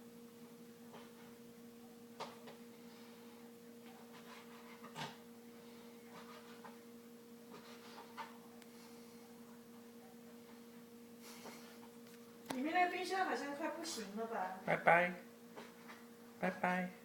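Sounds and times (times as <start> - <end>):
refrigerator humming: 0.0 - 17.0.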